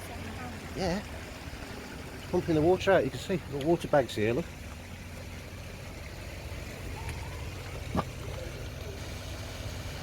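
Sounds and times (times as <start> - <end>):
flood pump engine humming: 0.0 - 10.0.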